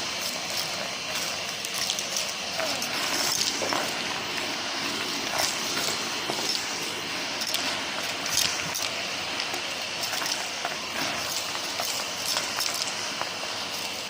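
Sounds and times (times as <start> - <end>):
debris rattling up hose: 0.0 - 14.0
vacuum cleaner running: 0.0 - 14.0.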